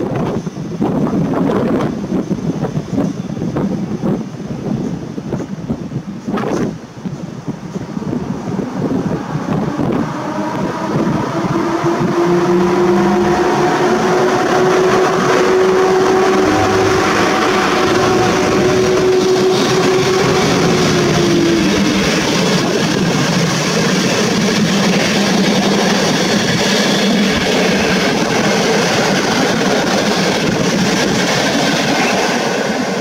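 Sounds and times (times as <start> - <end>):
steady tone from train: 0.0 - 33.0
train wheels on rails: 0.0 - 33.0.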